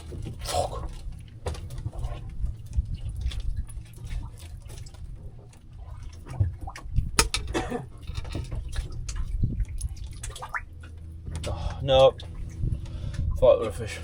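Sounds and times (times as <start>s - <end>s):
low rumble: 0.0s - 14.0s
water lapping against boat: 0.0s - 14.0s.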